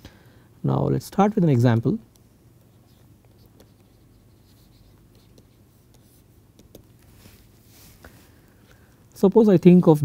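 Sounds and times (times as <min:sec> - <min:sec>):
steady low hum: 0:00.0 - 0:10.0
stylus tapping and scratching: 0:01.7 - 0:09.9.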